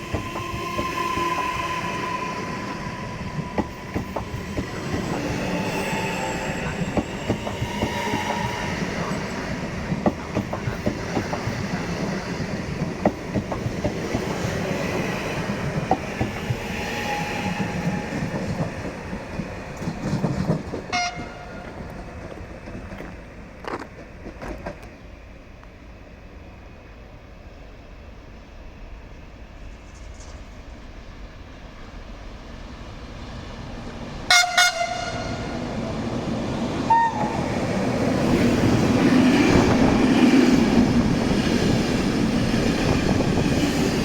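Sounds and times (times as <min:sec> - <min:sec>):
freight train rumble: 0:00.0 - 0:44.0.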